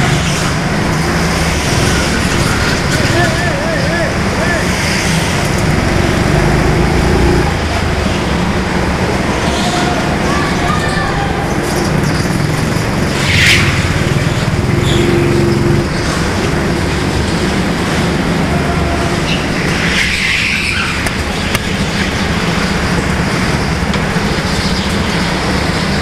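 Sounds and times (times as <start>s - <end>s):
go-kart engines running: 0.0s - 26.0s.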